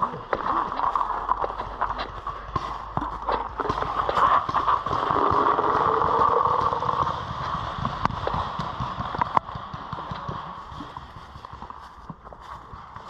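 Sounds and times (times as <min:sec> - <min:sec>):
footsteps: 0:00.0 - 0:13.0
gear knocking against camera: 0:00.0 - 0:13.0.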